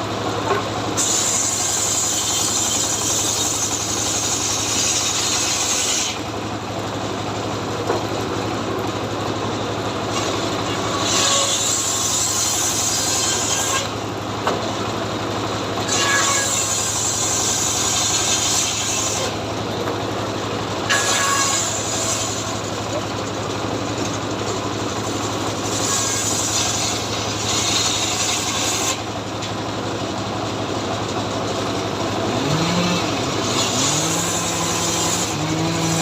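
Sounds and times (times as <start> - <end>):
chainsaw engine running: 0.0 - 36.0.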